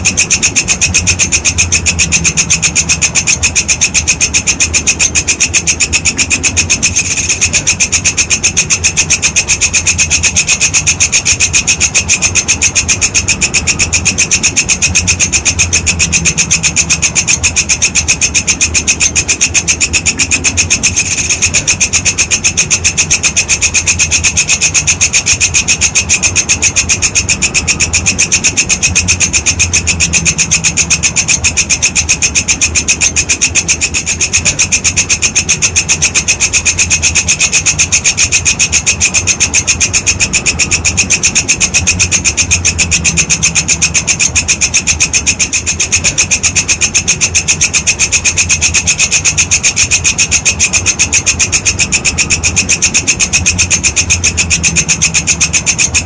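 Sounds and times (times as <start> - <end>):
insect calling shrill raspy pulses: 0.0 - 56.0.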